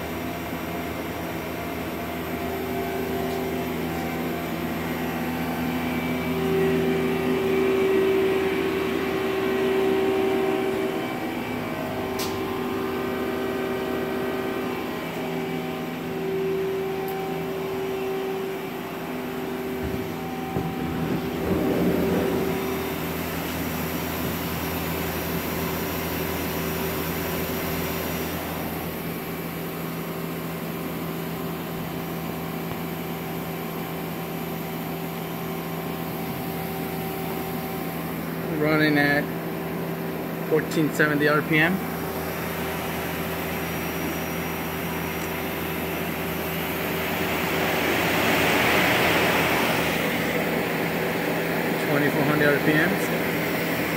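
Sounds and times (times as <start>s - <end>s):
lathe machine hum: 0.0s - 53.9s.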